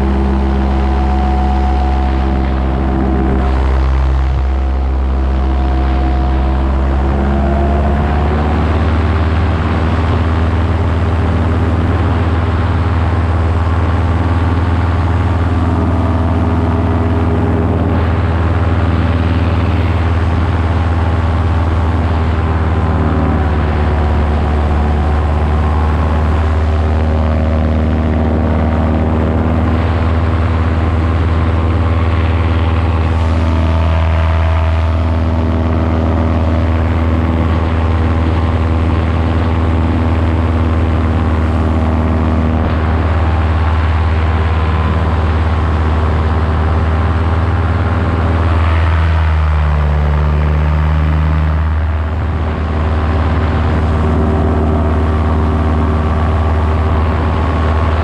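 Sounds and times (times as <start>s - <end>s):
paramotor engine drone: 0.0s - 58.0s
rushing air: 0.0s - 58.0s.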